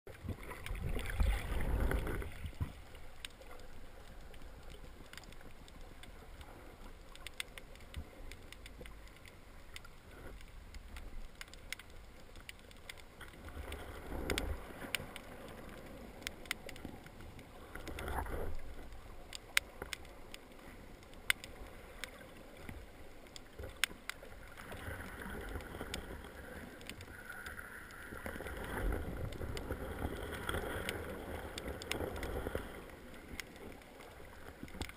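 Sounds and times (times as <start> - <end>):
muffled underwater water rush: 0.1 - 34.9
sharp clicks and crackles: 0.1 - 34.9.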